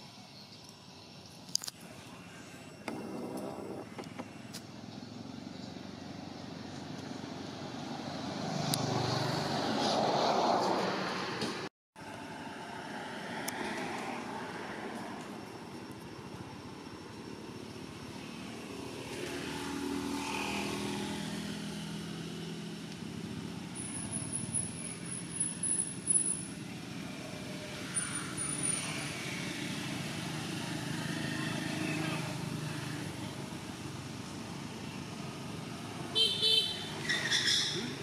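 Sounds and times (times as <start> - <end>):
traffic passing: 0.0 - 38.0.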